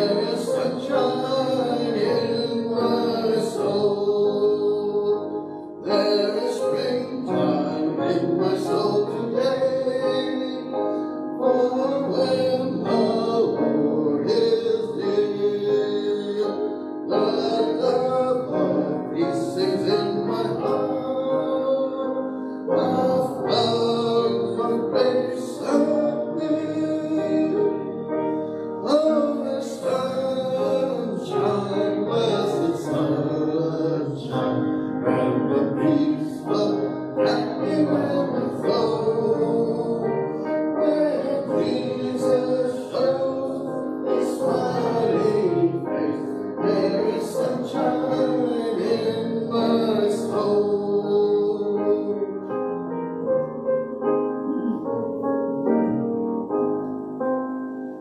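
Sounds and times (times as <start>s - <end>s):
congregation singing a hymn: 0.0s - 52.7s.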